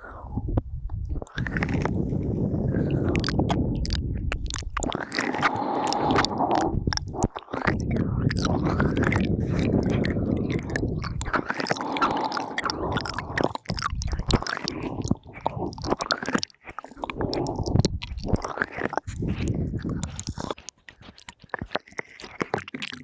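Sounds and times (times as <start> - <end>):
breathy sounds: 0.0 - 23.0
wet mouth clicks and smacks: 1.0 - 2.1, 2.8 - 23.0.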